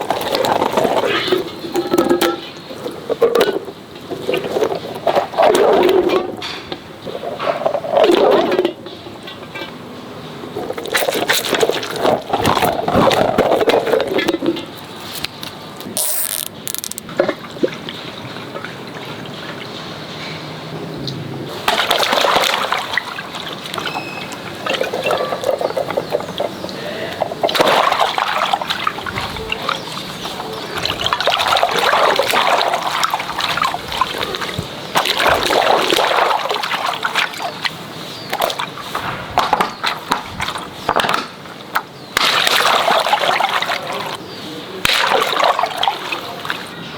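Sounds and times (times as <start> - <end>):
water gushing and sloshing: 0.0 - 9.0, 10.4 - 20.1, 21.5 - 46.9.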